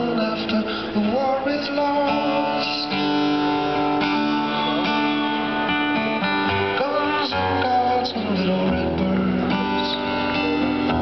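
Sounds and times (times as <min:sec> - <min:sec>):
amplified acoustic guitar chords: 0:00.0 - 0:11.0.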